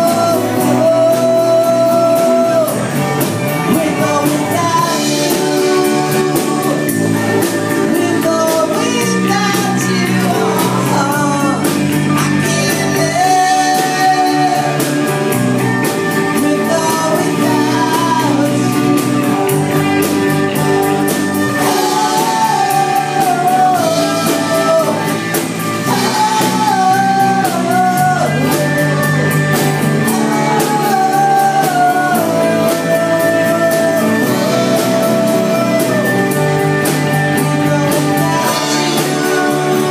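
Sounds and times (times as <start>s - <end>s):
drum kit: 0.0s - 39.9s
electric and acoustic guitars: 0.0s - 39.9s
person singing: 0.0s - 39.9s.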